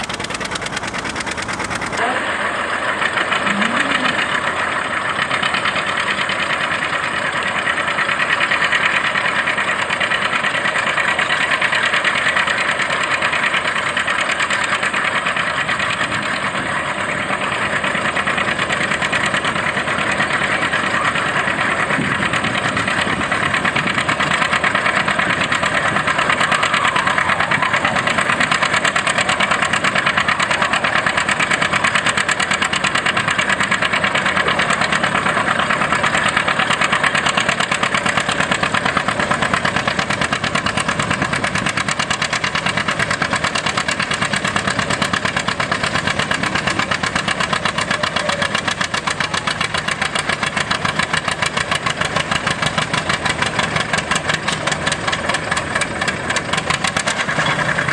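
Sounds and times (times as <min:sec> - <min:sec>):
tractor engine running hard: 0:00.0 - 0:57.9.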